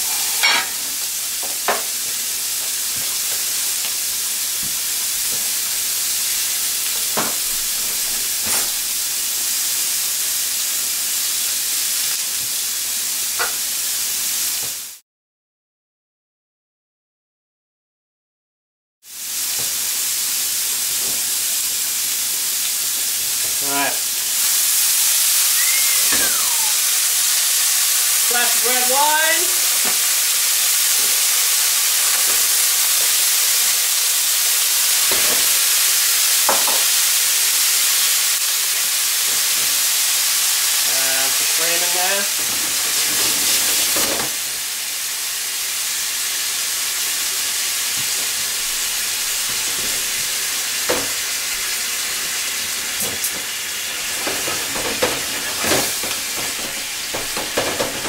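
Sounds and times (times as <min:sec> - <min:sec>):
steaks sizzling in a frying pan: 0:00.0 - 0:15.0, 0:19.1 - 0:58.0.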